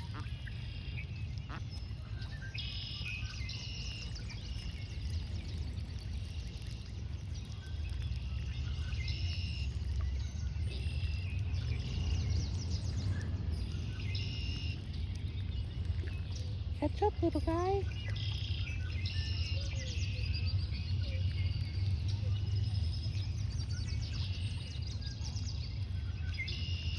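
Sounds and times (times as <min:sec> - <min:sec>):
birds chirping in trilled bursts: 0:00.0 - 0:26.9
steady low rumble: 0:00.0 - 0:26.9.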